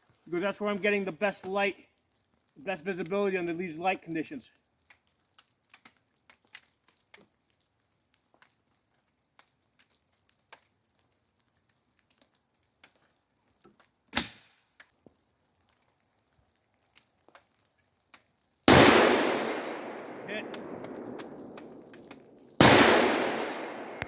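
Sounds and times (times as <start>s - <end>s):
light rain drops pattering: 0.0s - 24.0s.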